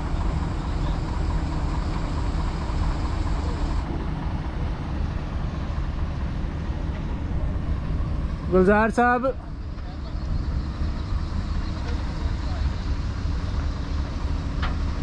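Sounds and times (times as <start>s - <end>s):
heavy engine rumbling: 0.0s - 15.0s.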